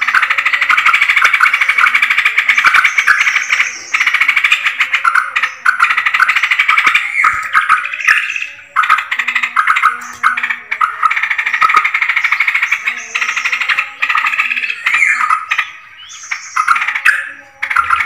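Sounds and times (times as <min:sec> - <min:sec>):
birds chattering loudly: 0:00.0 - 0:18.0.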